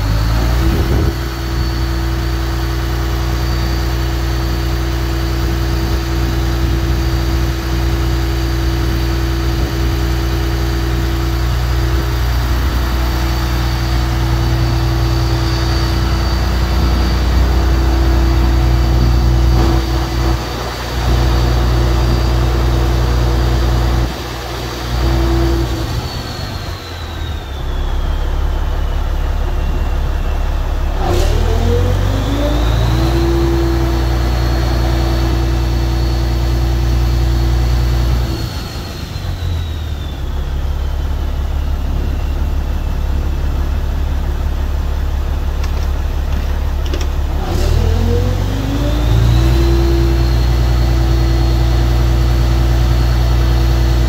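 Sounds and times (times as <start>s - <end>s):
high whine: 0.0s - 54.0s
truck engine running: 0.0s - 54.0s.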